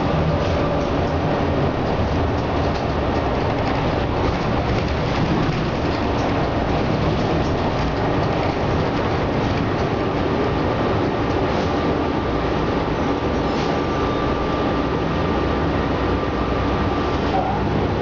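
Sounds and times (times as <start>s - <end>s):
bus engine rumble: 0.0s - 18.0s
road noise: 0.0s - 18.0s.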